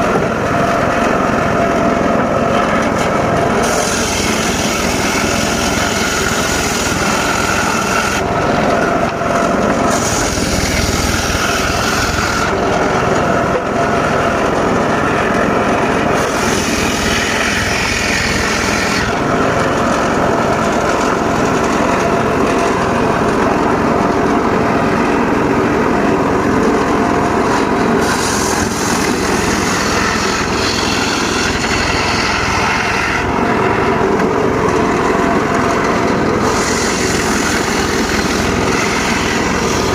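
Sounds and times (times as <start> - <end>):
saw blade cutting wood: 0.0 - 24.5, 27.4 - 39.9
circular saw running: 0.0 - 39.9.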